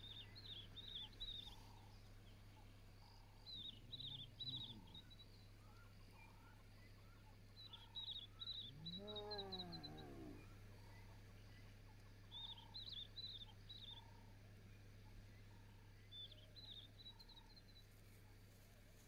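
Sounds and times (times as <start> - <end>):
birds chirping: 0.0 - 18.5
low steady hum: 0.0 - 19.0.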